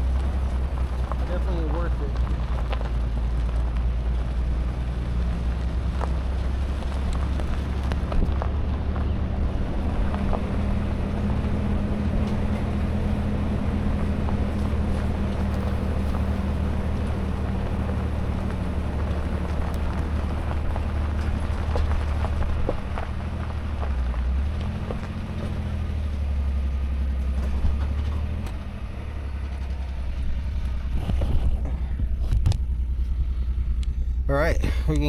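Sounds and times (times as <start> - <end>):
truck engine humming: 0.0 - 35.0.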